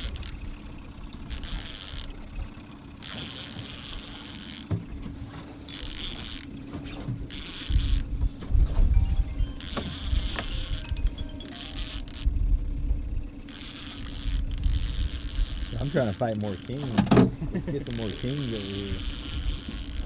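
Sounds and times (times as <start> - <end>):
fishing reel buzzing: 0.0 - 4.8, 5.6 - 8.2, 9.6 - 20.0
boat motor running: 0.0 - 20.0.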